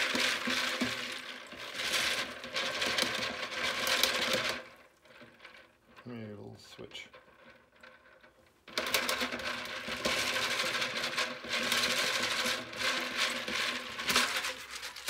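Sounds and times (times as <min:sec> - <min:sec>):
plastic pieces rattling in a basket: 0:00.0 - 0:05.7, 0:06.9 - 0:15.0.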